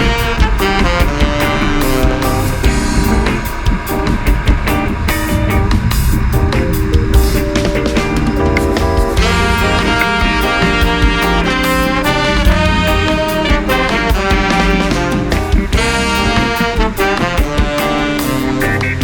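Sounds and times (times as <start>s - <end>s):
music with brass and steady beat: 0.0s - 19.0s.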